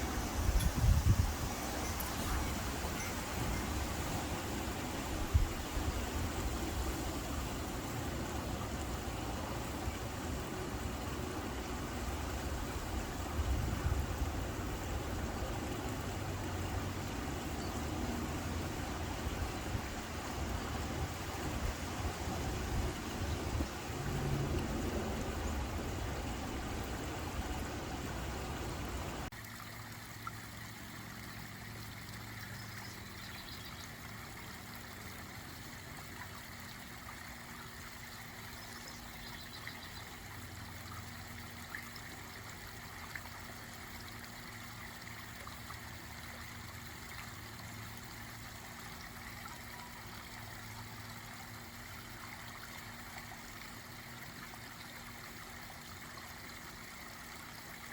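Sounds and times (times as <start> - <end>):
pond waterfall trickling: 0.0 - 57.9.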